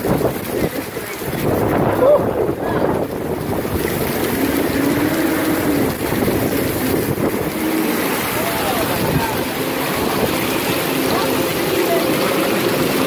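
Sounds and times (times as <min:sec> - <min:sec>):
heavy downpour: 0:00.0 - 0:13.0
storm wind buffeting microphone: 0:00.0 - 0:13.0.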